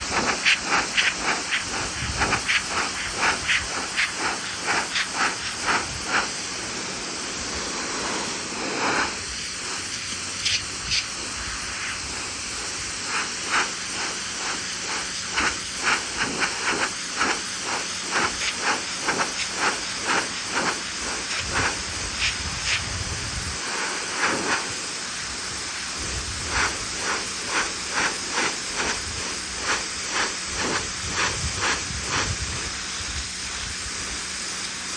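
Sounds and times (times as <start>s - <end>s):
pressure washer spraying: 0.0s - 34.9s.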